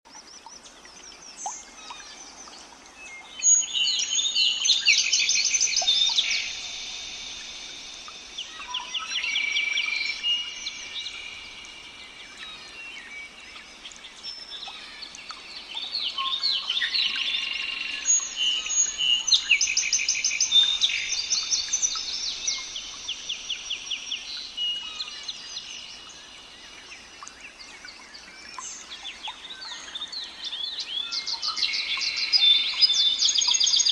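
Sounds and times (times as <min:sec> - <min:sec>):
songbirds chorus: 0:00.1 - 0:33.9.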